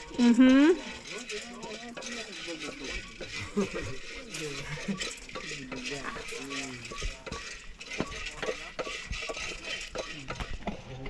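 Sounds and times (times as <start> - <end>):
utensil scraping coffee beans in pan: 0.0 - 11.0.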